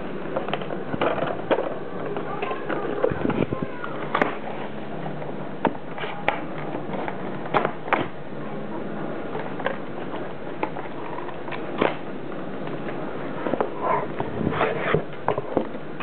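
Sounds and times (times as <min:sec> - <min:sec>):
background noise: 0:00.0 - 0:16.0.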